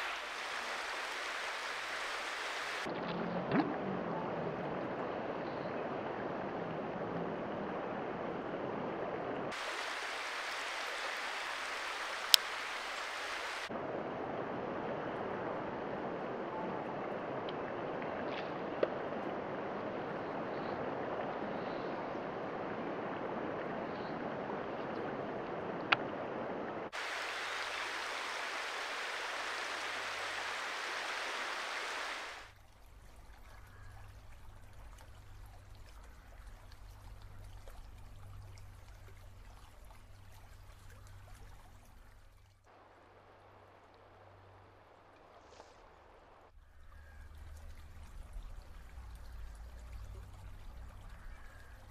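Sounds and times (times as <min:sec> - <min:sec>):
creek water rushing: 0:00.0 - 0:51.9.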